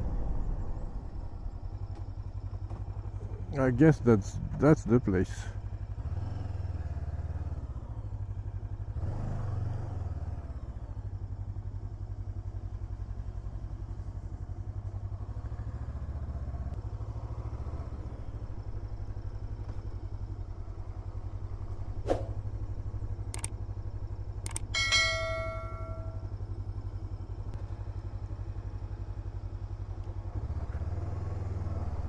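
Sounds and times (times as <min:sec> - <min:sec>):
motorcycle engine at low revs: 0:00.0 - 0:32.0.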